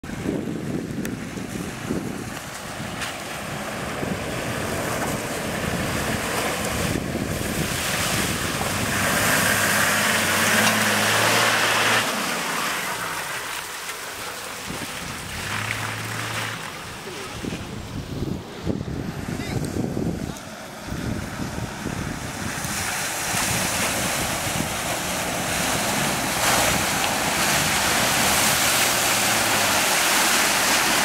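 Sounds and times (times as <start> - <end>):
wind buffeting microphone: 0.0 - 12.1, 14.6 - 31.0
vehicle engine humming: 0.0 - 31.0
water splashing around wheels: 0.1 - 31.0.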